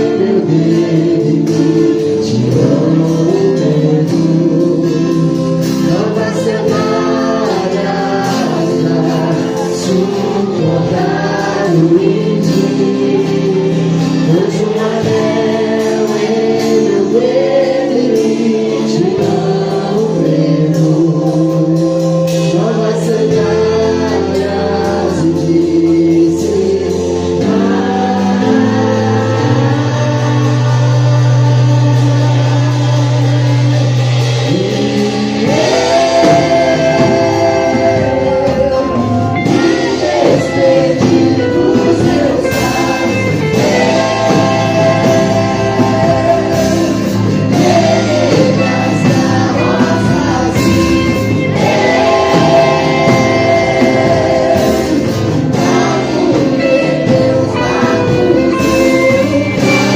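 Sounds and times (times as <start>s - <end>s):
band with drums: 0.0s - 59.9s
choir singing: 0.0s - 59.9s
deep bass line: 0.0s - 59.9s.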